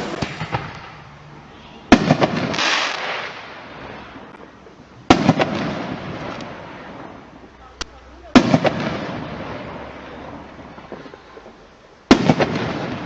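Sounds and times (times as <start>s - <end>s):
firework bursts with crackle: 0.0s - 13.0s.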